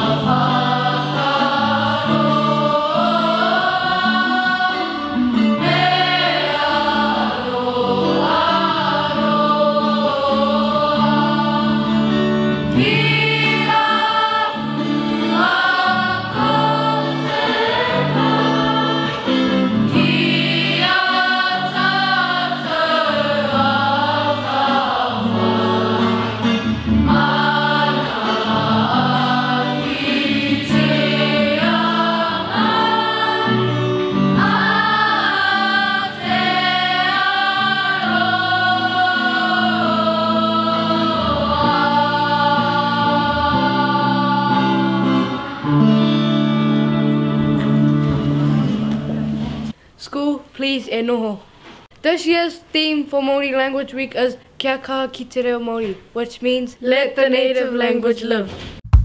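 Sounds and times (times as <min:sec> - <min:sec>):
choir singing slow song: 0:00.0 - 0:49.8.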